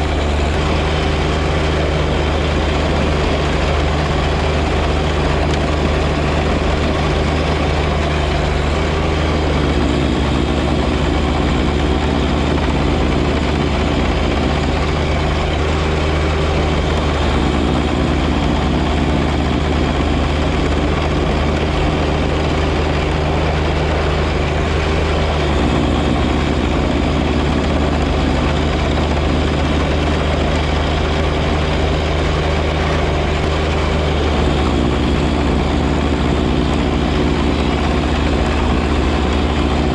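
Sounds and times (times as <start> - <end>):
snowblower rushing noise: 0.0 - 39.9
tractor diesel engine running: 0.0 - 39.9.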